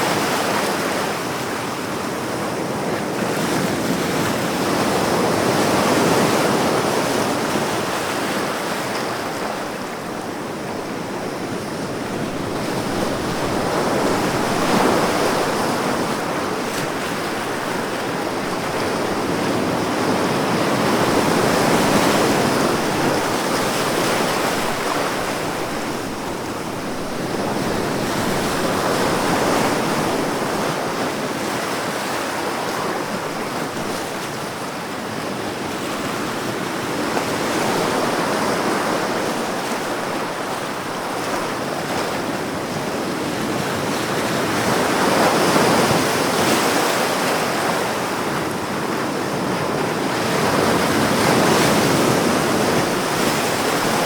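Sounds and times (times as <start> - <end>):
ocean waves breaking: 2.6 - 54.0.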